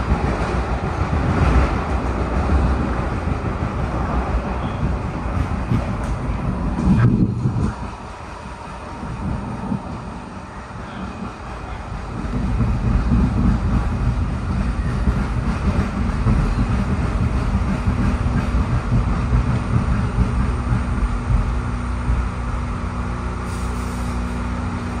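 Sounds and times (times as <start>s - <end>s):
train wheels rumbling on rail: 0.0s - 25.0s
steady hum: 4.6s - 25.0s.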